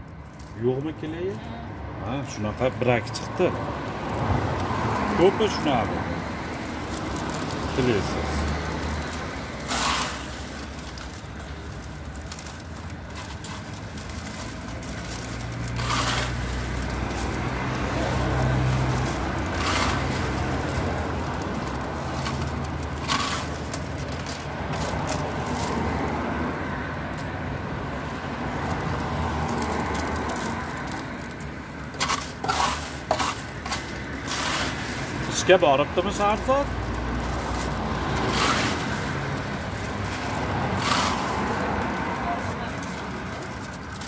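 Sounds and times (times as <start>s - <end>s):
popcorn rustling: 0.0s - 44.0s
road traffic rumble: 0.0s - 44.0s
plastic cup crinkling: 2.3s - 26.6s, 28.0s - 44.0s.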